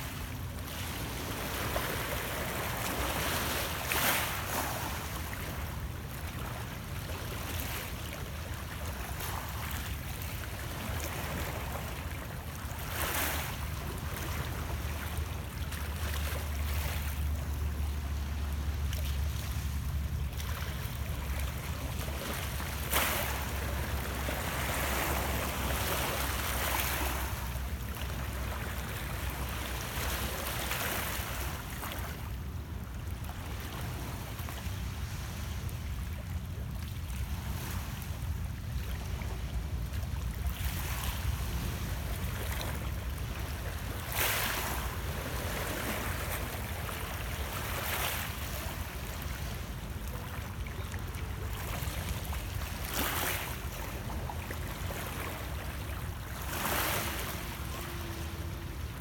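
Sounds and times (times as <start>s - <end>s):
waves lapping against rocks: 0.0s - 59.0s.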